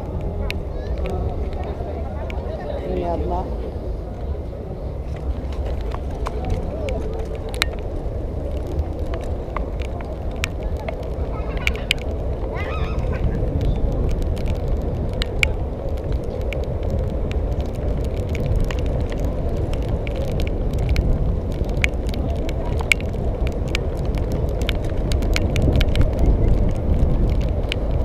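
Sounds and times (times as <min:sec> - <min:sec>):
wind and road rumble: 0:00.0 - 0:28.0.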